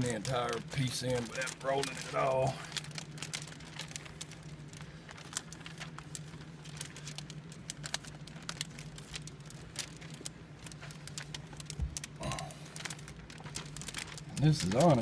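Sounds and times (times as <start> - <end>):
plastic film crinkling: 0.0 - 15.0
steady low hum: 0.0 - 15.0.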